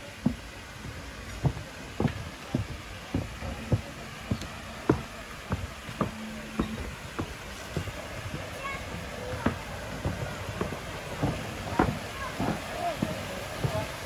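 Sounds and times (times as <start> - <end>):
faint background hiss: 0.0 - 14.0
footsteps walking: 0.2 - 14.0.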